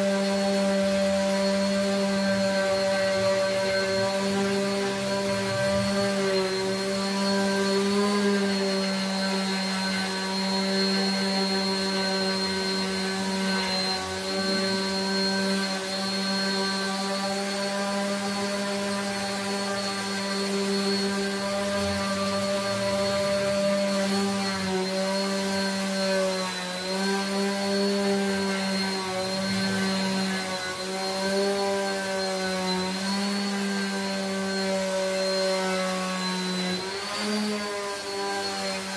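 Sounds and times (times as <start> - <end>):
orbital sander sanding wood: 0.0 - 38.9.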